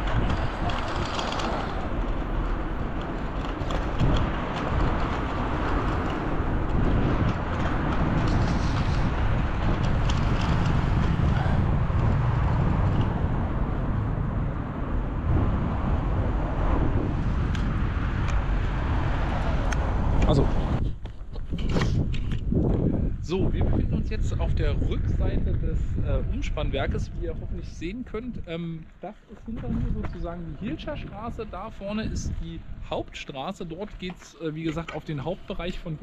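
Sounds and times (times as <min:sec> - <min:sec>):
wind on microphone: 0:00.0 - 0:34.2
street traffic rumble: 0:00.0 - 0:36.0.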